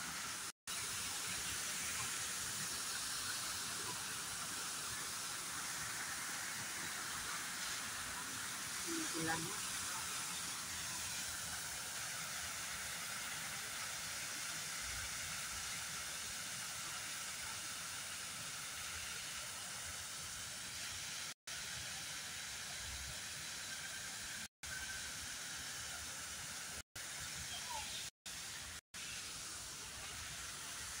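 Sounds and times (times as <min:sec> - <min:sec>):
steady hiss: 0:00.0 - 0:31.0.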